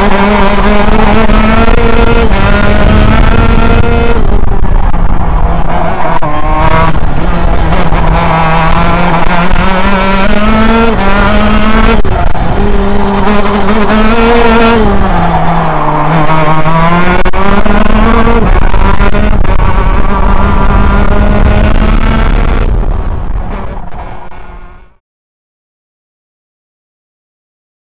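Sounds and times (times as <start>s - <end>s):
kart engine revving: 0.0s - 24.8s.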